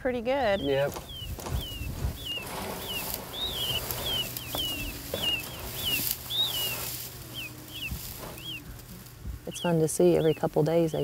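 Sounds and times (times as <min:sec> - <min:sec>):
chicks peeping: 0:00.2 - 0:11.0.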